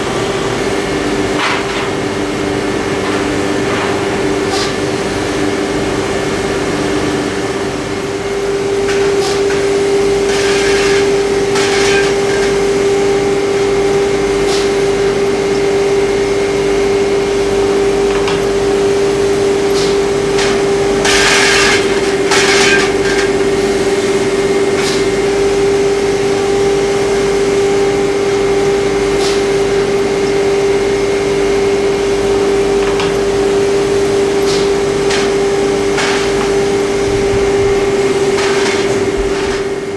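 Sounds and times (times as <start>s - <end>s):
machinery hum and hiss: 0.0s - 39.9s.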